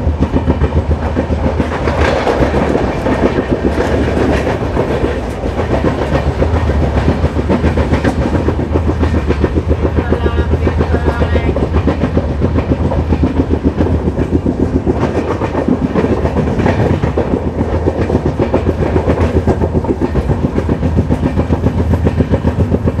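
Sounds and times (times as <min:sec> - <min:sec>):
train wheels clickety-clack: 0:00.0 - 0:23.0.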